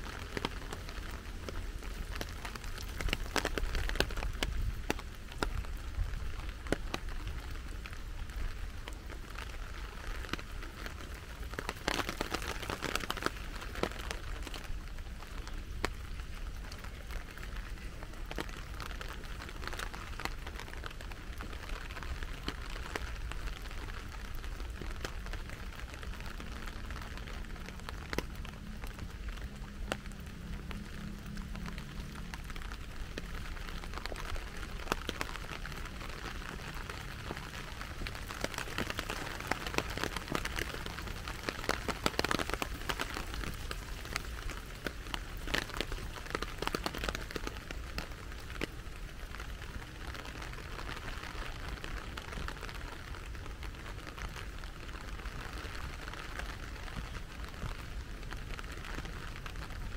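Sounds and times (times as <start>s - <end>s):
raindrops ticking: 0.0s - 59.9s
steady rain falling: 0.0s - 59.9s.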